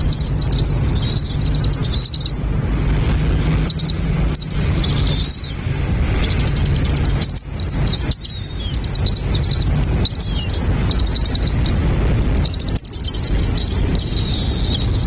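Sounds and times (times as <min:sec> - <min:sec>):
low rumble: 0:00.0 - 0:15.0
small birds chirping: 0:00.0 - 0:15.0.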